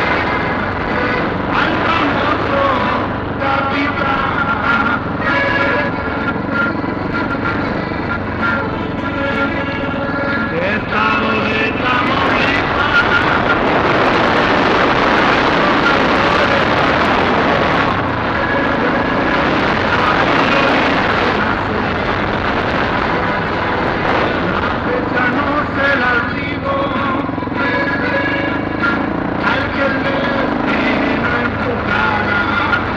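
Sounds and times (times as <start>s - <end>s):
dense rushing noise: 0.0s - 32.9s
dirt bike engine running: 0.0s - 32.9s.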